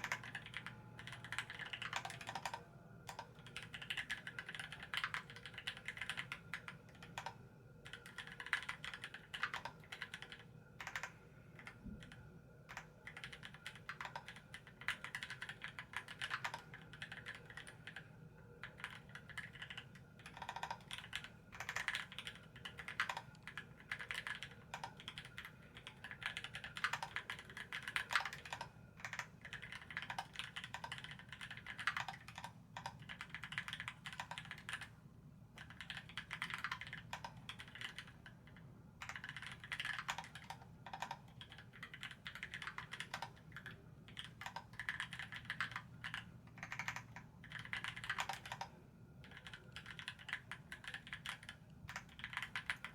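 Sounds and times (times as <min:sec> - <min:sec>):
typing on mechanical keyboard: 0:00.0 - 0:34.9, 0:35.5 - 0:52.9.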